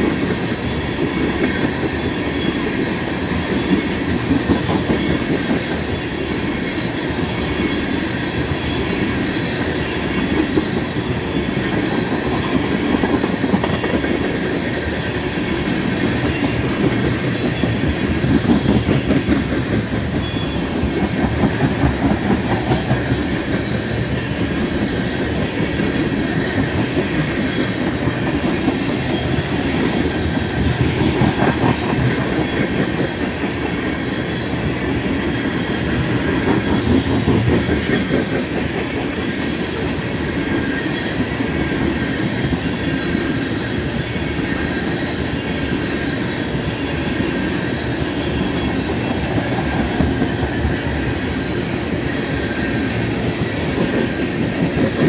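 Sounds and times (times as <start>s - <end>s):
clickety-clack over rail joints: 0.0s - 55.0s
steel wheels rumbling on rails: 0.0s - 55.0s.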